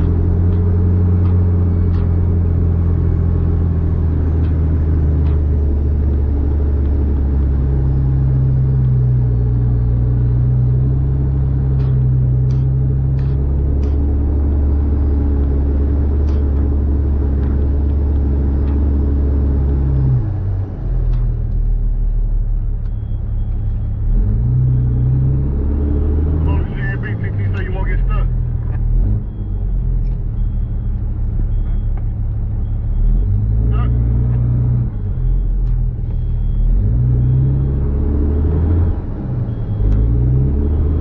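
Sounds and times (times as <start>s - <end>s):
diesel truck engine under load: 0.0s - 41.0s.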